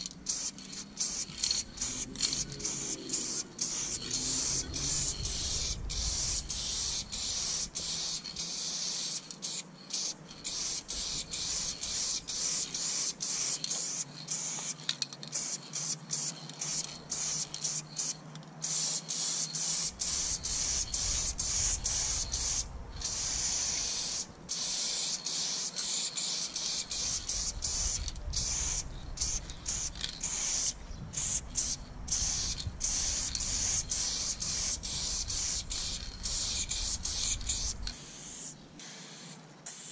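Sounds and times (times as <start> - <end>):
spray paint can hissing: 0.0 - 39.9.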